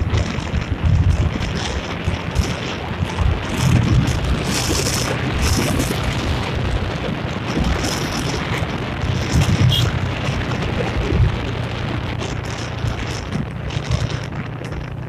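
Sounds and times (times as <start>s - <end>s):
motorbike engine drone: 0.0s - 15.0s
wind buffeting microphone: 0.0s - 15.0s.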